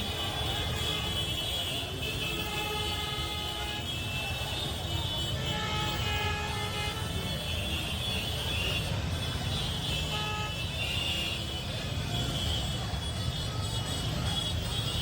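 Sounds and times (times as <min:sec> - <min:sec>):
crowd: 0:00.0 - 0:15.0
traffic: 0:00.0 - 0:15.0
vehicle horns tooting: 0:00.0 - 0:15.0.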